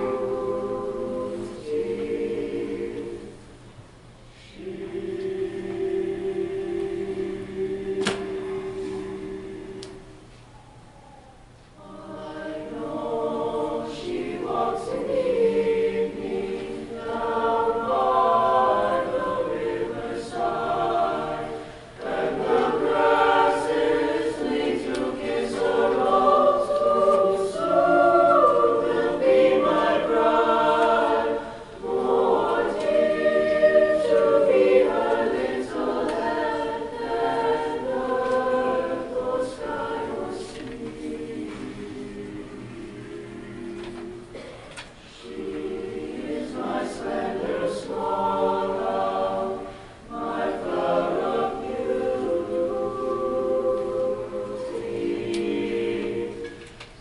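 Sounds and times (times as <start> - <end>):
mixed choir singing: 0.0 - 10.4, 11.8 - 56.9.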